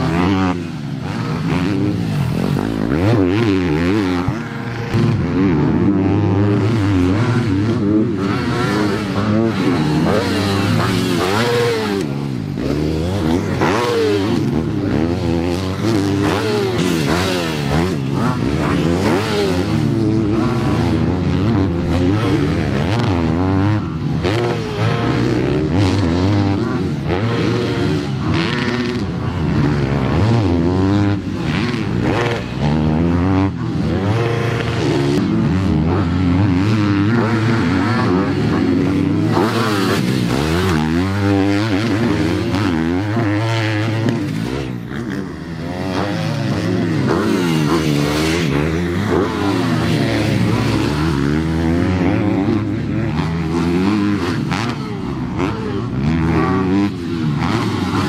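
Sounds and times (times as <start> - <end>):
motocross bikes revving: 0.0 - 58.0.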